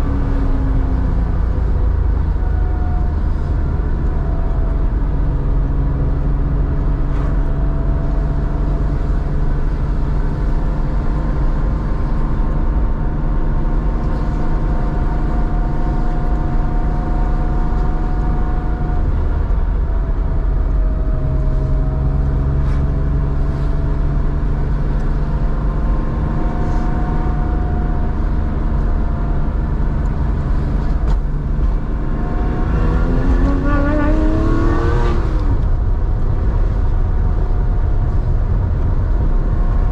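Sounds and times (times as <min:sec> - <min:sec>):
car engine running while driving: 0:00.0 - 0:39.9.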